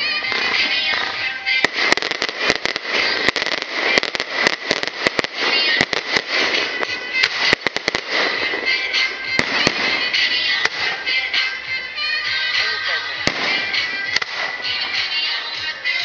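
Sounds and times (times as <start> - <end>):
firework shells bursting: 0.0 - 12.2, 13.2 - 16.0
crackling of firework stars: 0.0 - 16.0.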